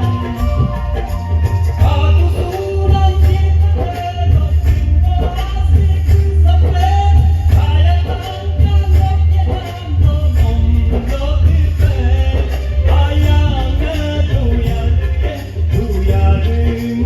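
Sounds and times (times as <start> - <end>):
backing music with bass and beat: 0.0 - 17.0
person singing: 0.0 - 17.0.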